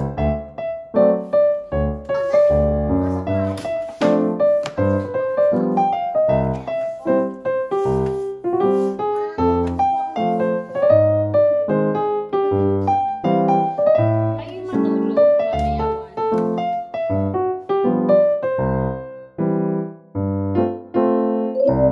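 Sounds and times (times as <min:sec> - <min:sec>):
piano background music: 0:00.0 - 0:21.9.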